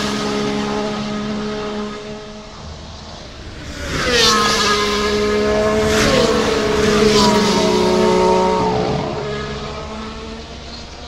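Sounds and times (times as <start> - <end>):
race cars passing at speed: 0.0 - 11.0.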